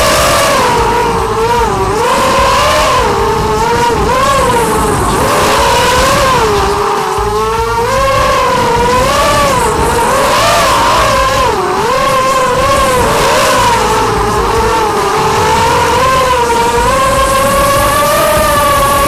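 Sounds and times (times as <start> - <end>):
quadcopter motors buzzing whine: 0.0 - 19.0.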